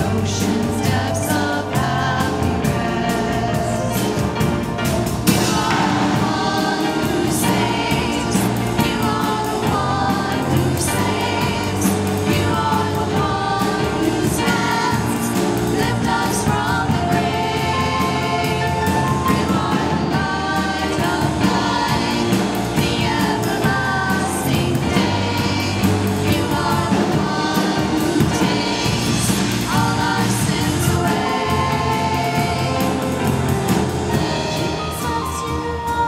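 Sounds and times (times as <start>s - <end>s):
choir singing with accompaniment: 0.0s - 36.0s.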